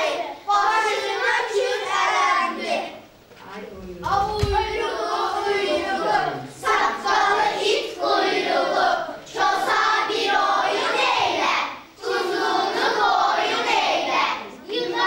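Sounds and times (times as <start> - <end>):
children singing in unison: 0.0 - 3.1, 4.1 - 15.0.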